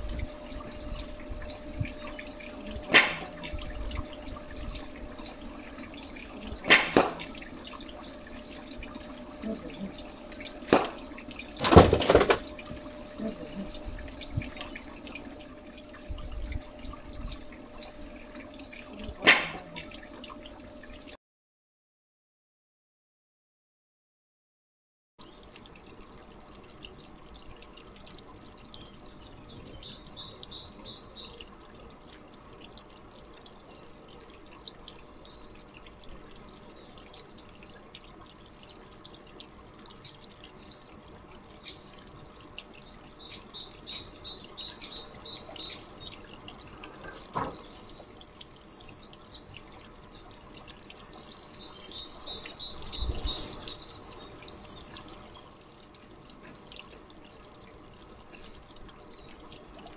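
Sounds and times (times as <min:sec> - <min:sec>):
garden birds chirping: 0:00.0 - 0:20.8, 0:25.2 - 0:59.9.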